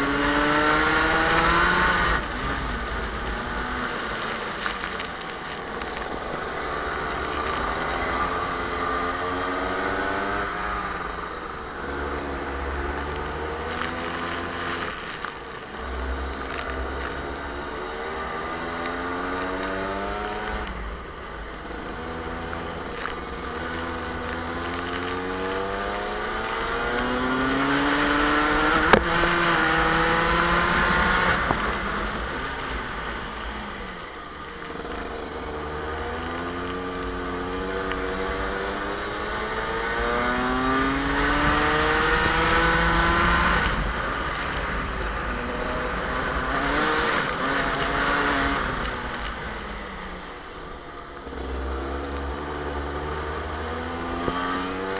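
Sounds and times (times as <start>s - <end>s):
kart engine revving: 0.0s - 54.9s.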